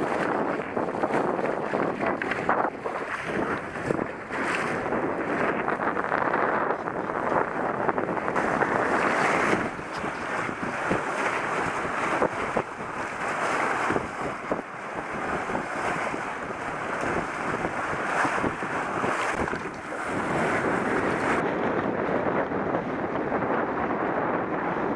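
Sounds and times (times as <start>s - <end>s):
water splashing along hulls: 0.0s - 24.9s
wind buffeting microphone: 0.0s - 24.9s.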